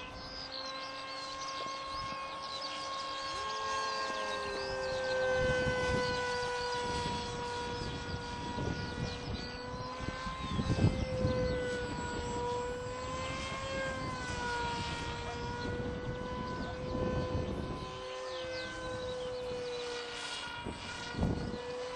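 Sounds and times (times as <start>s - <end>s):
rc plane motor whine: 0.0s - 21.9s.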